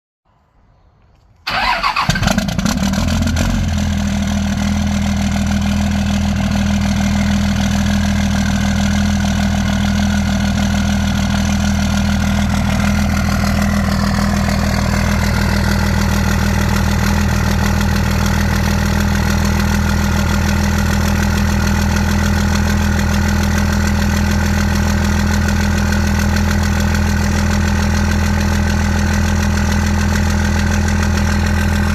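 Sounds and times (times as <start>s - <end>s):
engine starting and idling: 1.4s - 31.9s.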